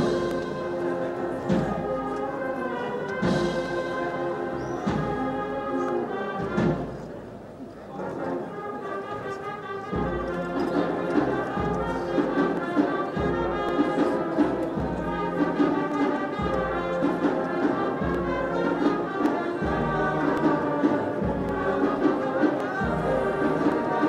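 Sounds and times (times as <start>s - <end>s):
brass band playing slow march: 0.0s - 24.0s.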